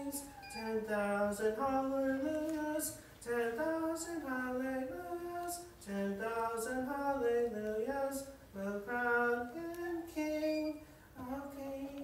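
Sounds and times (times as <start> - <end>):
man singing a hymn: 0.0 - 12.0.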